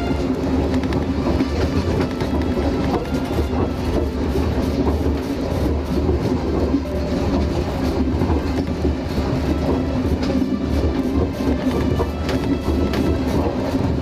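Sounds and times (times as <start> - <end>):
train rumbling: 0.0 - 14.0
wheels clicking over rail joints: 0.0 - 14.0.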